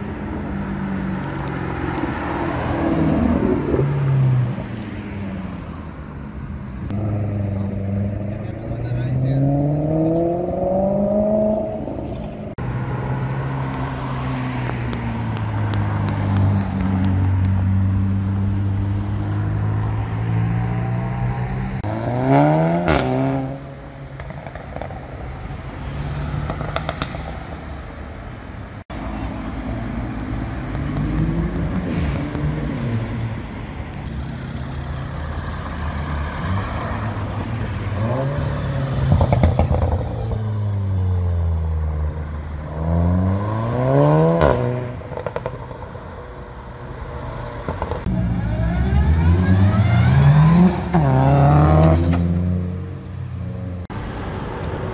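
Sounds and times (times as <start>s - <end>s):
sports car engines revving: 0.0s - 27.4s, 29.4s - 53.9s
passing traffic road noise: 0.0s - 54.9s.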